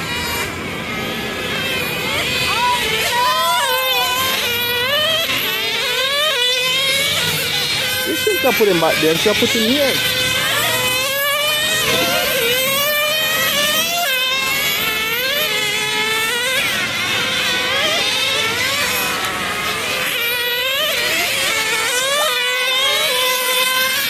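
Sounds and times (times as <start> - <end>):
rc car engines buzzing: 0.0 - 24.0.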